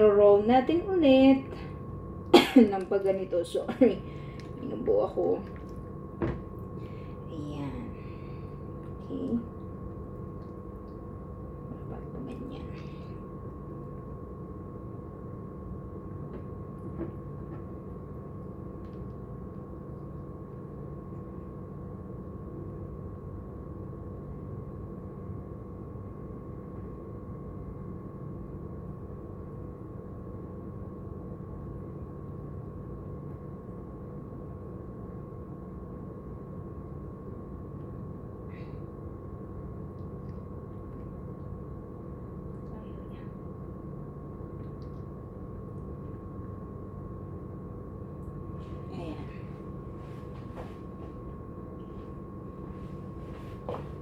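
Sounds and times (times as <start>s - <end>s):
mechanical hum with high tone: 0.0s - 54.0s.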